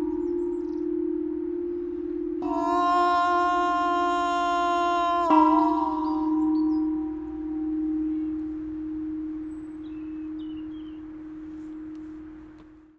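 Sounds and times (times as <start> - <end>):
metal chime tube ringing: 0.0 - 12.7.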